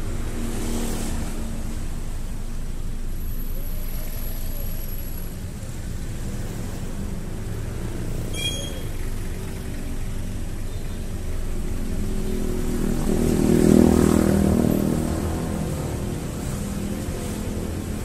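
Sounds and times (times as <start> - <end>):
motorcycle engines in traffic: 0.0 - 18.0
passing motorbike engine: 0.0 - 18.0.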